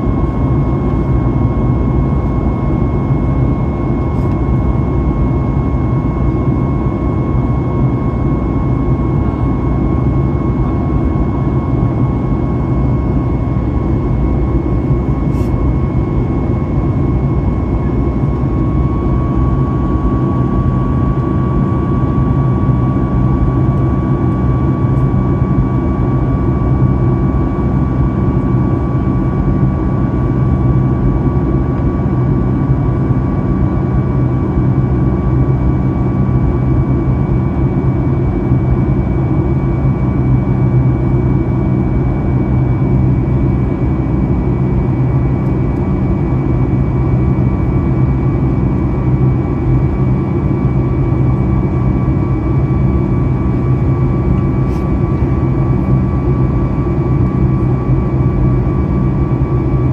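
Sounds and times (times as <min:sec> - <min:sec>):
airplane cabin engine rumble: 0:00.0 - 0:59.9
high engine whine: 0:00.0 - 0:59.9.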